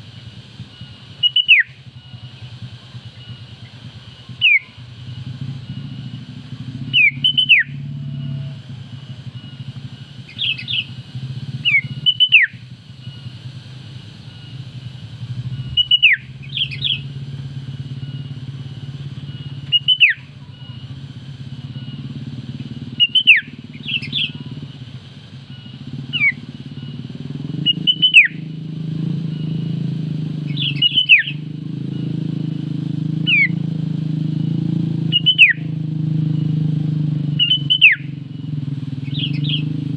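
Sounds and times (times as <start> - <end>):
low engine hum: 0.0 - 39.9
bulbul whistled calls: 0.6 - 24.8, 25.5 - 29.8, 30.4 - 32.2, 33.2 - 33.6, 35.0 - 36.6, 37.3 - 39.9.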